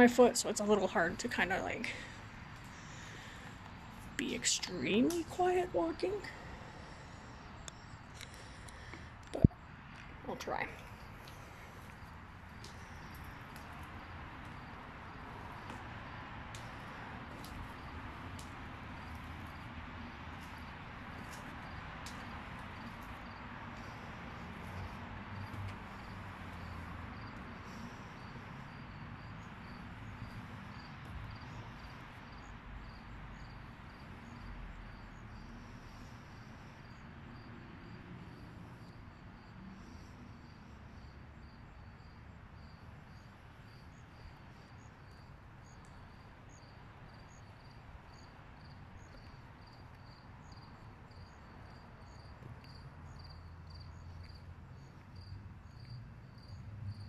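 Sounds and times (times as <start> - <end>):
crickets chirping: 6.0 - 57.0.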